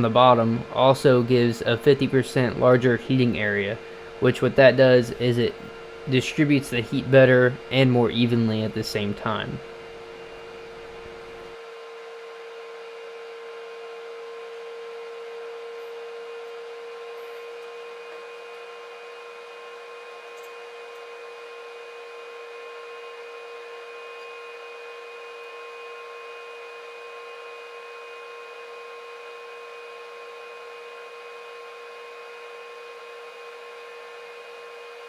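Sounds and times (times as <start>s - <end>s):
air fryer fan whirring: 0.0s - 35.0s.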